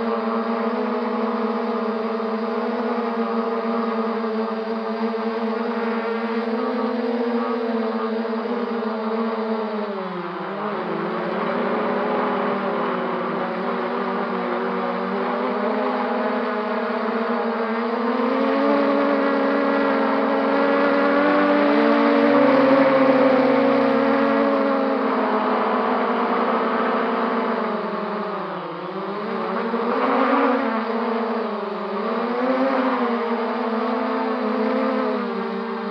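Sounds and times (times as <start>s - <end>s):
quadcopter motors whining: 0.0s - 35.9s.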